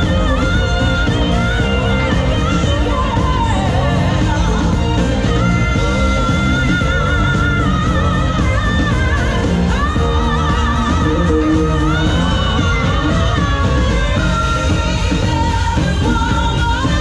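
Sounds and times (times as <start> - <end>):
loud pop music with singer: 0.0 - 17.0.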